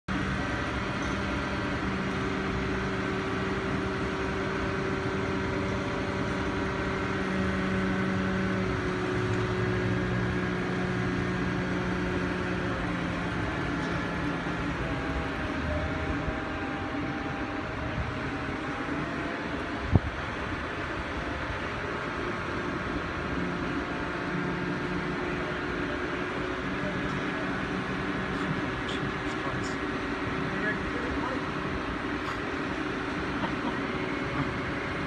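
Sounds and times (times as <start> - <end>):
crane diesel engine running: 0.1 - 35.0.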